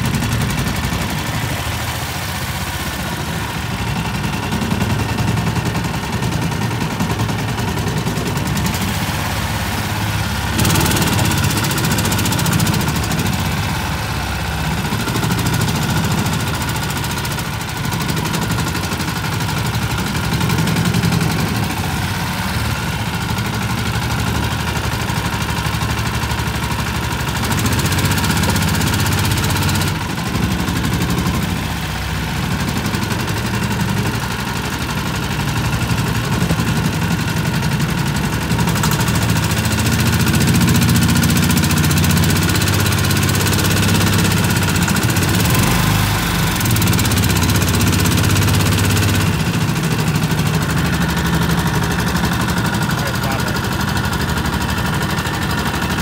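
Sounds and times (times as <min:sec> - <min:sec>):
boat motor running: 0:00.0 - 0:56.0.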